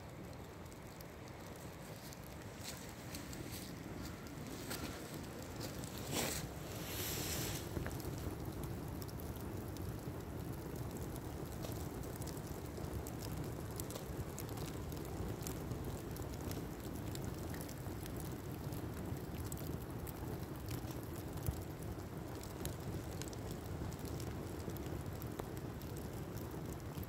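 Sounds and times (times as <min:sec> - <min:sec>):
fire crackling and popping: 0:00.0 - 0:27.0
fire low rushing: 0:00.1 - 0:27.0.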